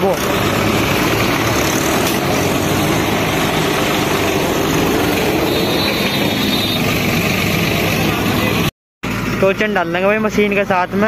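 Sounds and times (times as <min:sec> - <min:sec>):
tractor engine droning: 0:00.0 - 0:10.5.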